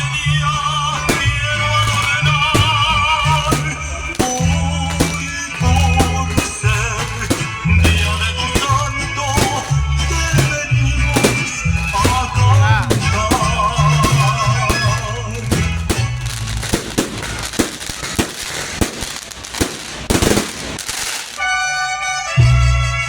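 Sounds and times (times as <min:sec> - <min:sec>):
rapid sharp cracks: 0:00.0 - 0:21.5.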